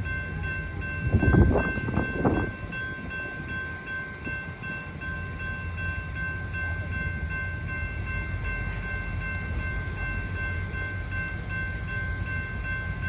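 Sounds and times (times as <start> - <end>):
crossing warning bell ringing: 0.0 - 13.0.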